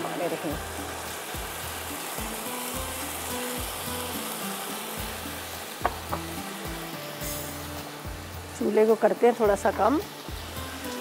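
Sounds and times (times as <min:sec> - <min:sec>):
food sizzling in a pot: 0:00.0 - 0:11.0
soft background music: 0:00.0 - 0:11.0.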